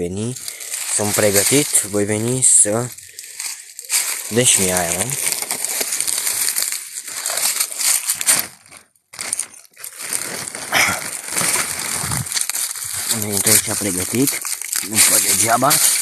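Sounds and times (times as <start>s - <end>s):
footsteps crunching through dry leaves: 0.0s - 16.0s
plastic bag crinkling: 0.0s - 16.0s.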